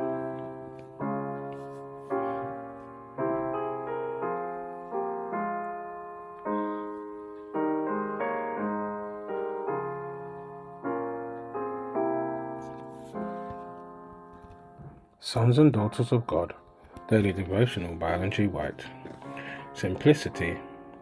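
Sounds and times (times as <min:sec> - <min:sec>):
slow gentle piano chords: 0:00.0 - 0:21.0.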